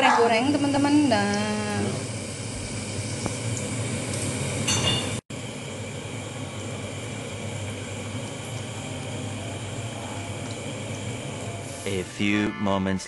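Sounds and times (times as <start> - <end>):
food deep-frying sizzle: 0.0 - 12.0.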